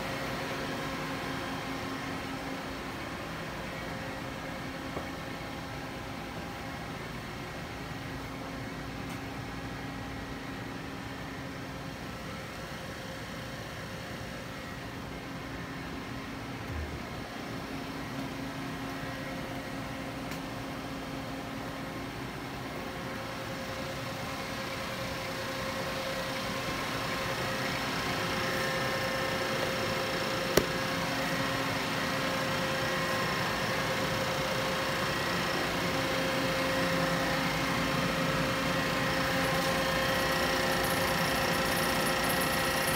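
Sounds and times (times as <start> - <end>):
machinery hum with steady tones: 0.0 - 42.9.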